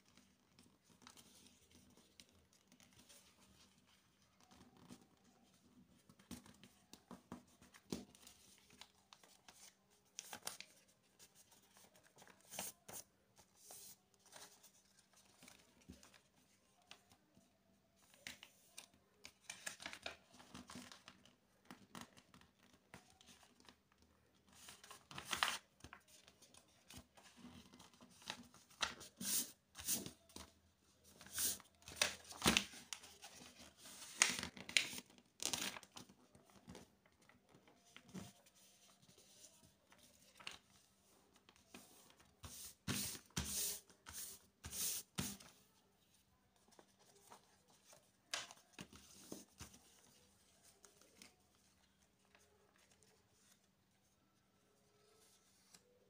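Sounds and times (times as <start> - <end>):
paper rustling and crinkling: 0.0 - 17.2, 18.0 - 23.8, 24.4 - 45.6, 46.5 - 54.1.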